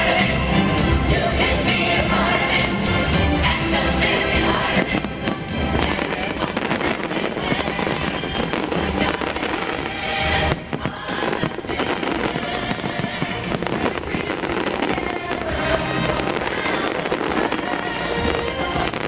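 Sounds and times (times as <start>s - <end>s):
fireworks bursting and crackling: 0.0s - 19.0s
loud show music: 0.0s - 19.0s.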